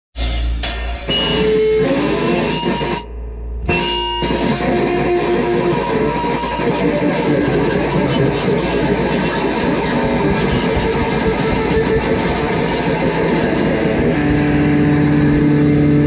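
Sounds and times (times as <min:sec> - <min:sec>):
rock music with electric guitar: 0:00.2 - 0:16.0.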